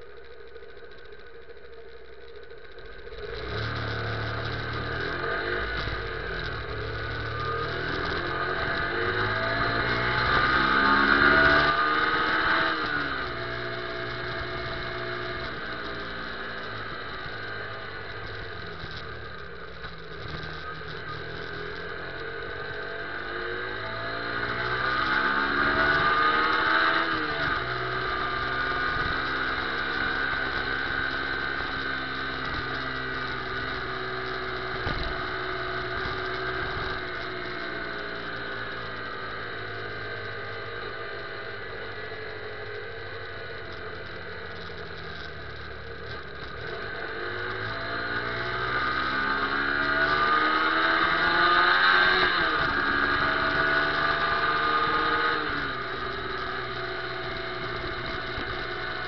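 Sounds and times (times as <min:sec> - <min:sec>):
motorcycle engine: 0:00.0 - 0:59.0
wind and road noise: 0:00.2 - 0:59.0.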